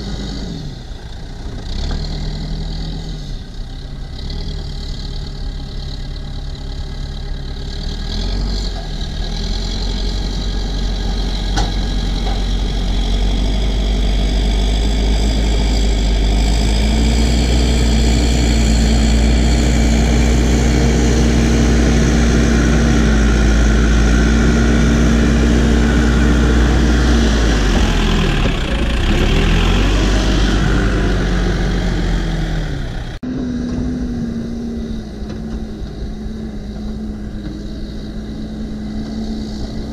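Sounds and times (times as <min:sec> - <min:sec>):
backhoe diesel engine under load: 0:00.0 - 0:39.9
distant engine hum: 0:00.0 - 0:39.9.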